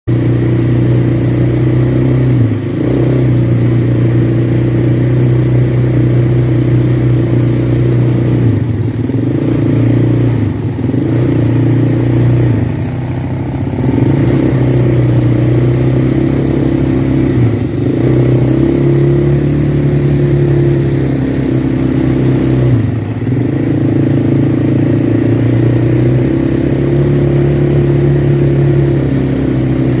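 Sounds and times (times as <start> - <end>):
quad bike engine running: 0.1 - 30.0.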